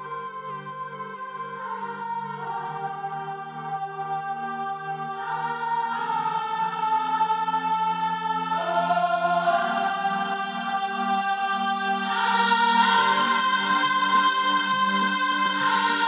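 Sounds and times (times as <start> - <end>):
slow choral chords: 0.0 - 16.0.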